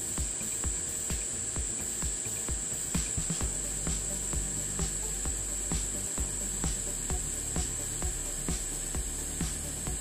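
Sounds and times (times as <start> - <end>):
background music with low beat: 0.0 - 10.0
welding arc whine: 0.0 - 10.0.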